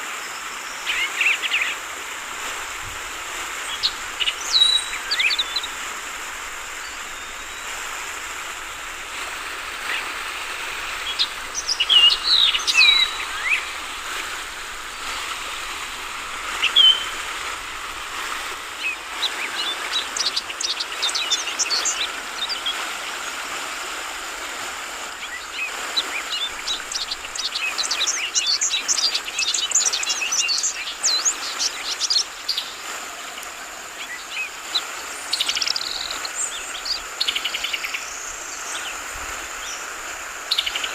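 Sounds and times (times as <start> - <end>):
trickling running water: 0.0 - 40.9
birds chirping: 0.3 - 22.8, 25.2 - 40.9.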